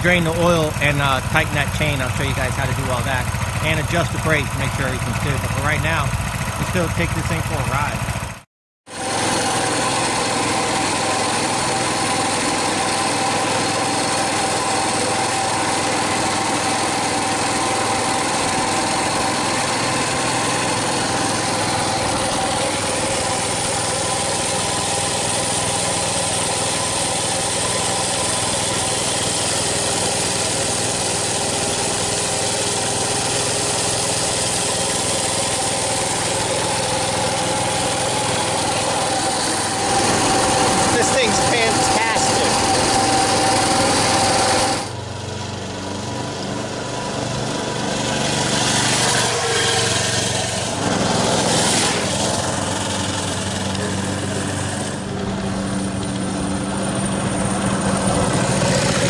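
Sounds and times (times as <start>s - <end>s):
mini bike engine running: 0.0s - 59.0s.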